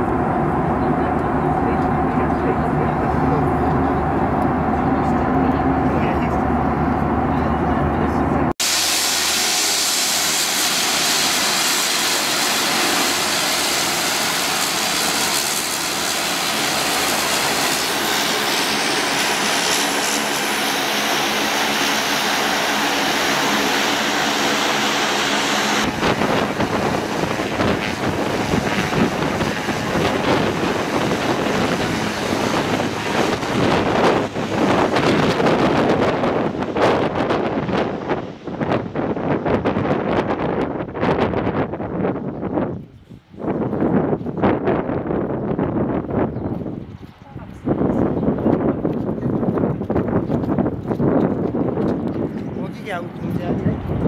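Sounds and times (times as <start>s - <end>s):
propeller plane engine drone: 0.0s - 54.0s
wind on microphone: 0.0s - 54.0s.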